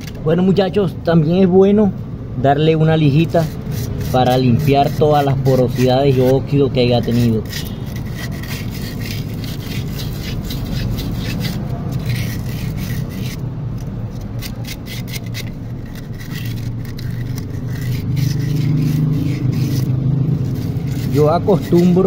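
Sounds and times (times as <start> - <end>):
steady low hum: 0.0 - 22.0
sandpaper scraping metal: 3.0 - 22.0.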